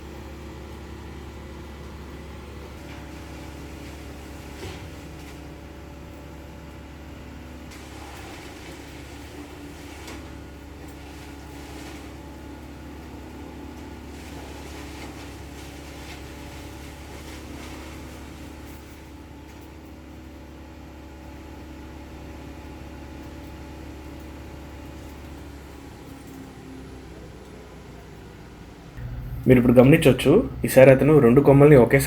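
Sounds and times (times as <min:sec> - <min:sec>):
large engine running steadily: 0:00.0 - 0:32.0.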